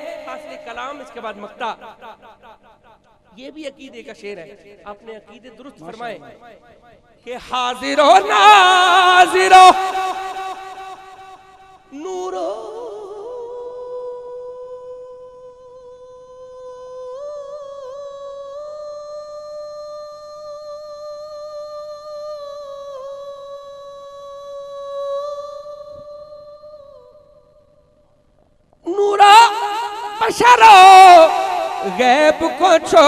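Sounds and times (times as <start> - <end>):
man singing a long note: 0.0 - 2.3, 7.3 - 27.4, 28.9 - 33.0.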